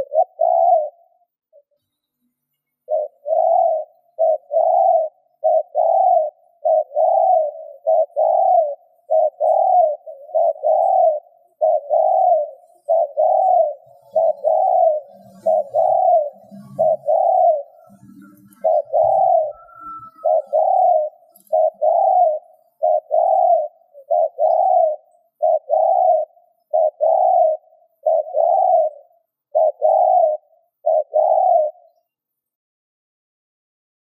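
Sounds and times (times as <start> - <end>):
dove cooing: 0.0 - 1.6, 2.8 - 32.0.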